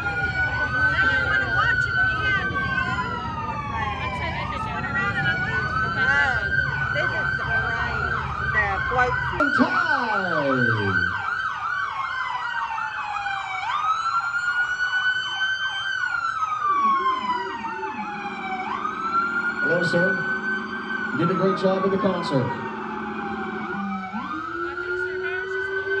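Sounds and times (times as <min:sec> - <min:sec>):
low vehicle rumble: 0:00.0 - 0:26.0
police siren fast yelp: 0:00.0 - 0:26.0
police siren slow wail: 0:00.0 - 0:26.0
siren winding down: 0:00.0 - 0:26.0.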